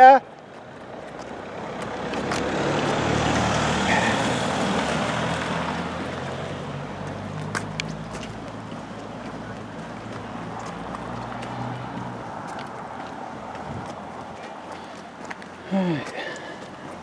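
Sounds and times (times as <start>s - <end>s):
vehicle engine hum and rushing: 0.2s - 17.0s.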